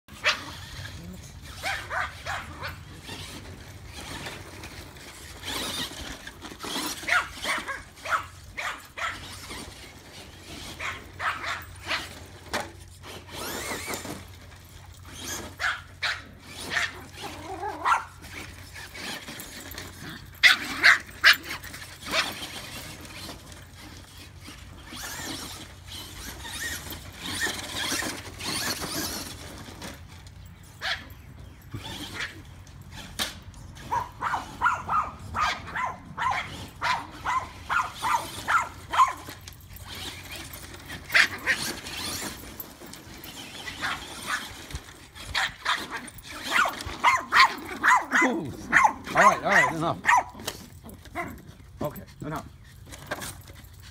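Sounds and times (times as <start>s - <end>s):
small dogs barking and yipping: 0.1s - 53.9s.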